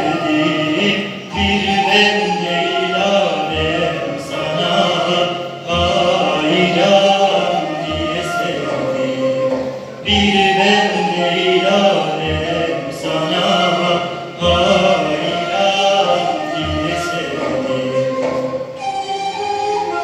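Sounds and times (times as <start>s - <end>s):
man singing a hymn amplified: 0.0s - 18.7s
musical accompaniment: 0.0s - 20.0s.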